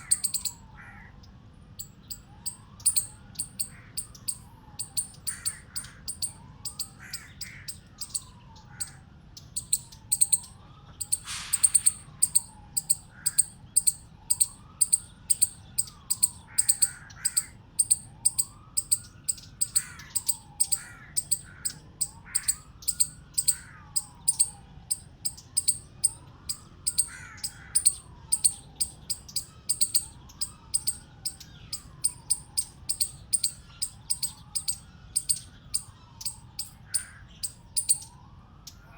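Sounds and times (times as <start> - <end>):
chipmunk chipping: 0.0 - 0.9, 1.8 - 38.8.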